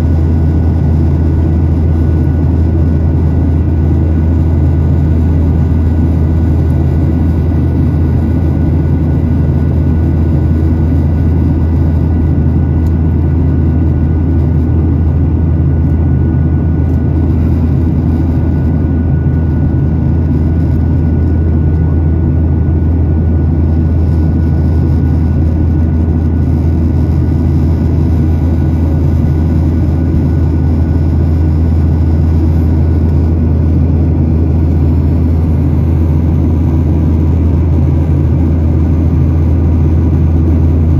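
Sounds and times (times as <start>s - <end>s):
faint high whine: 0.0s - 40.9s
jet engine and airflow rumble: 0.0s - 40.9s.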